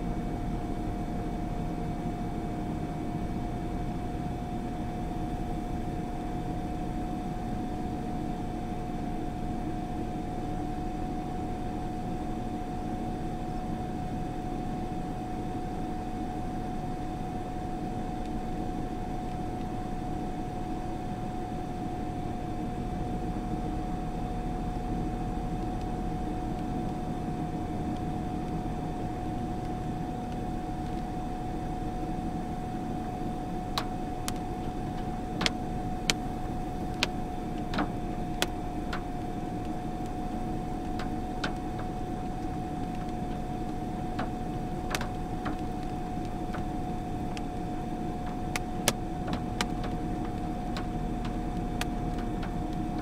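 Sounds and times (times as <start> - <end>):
car interior hum and hiss: 0.0 - 53.0.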